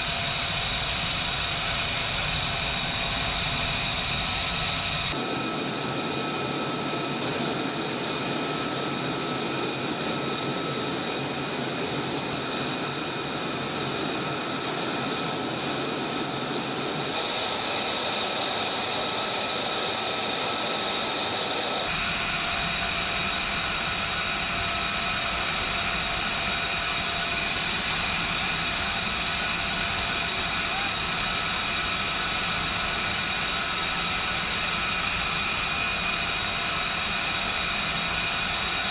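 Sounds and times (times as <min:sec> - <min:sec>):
jet engine with high whine: 0:00.0 - 0:38.9.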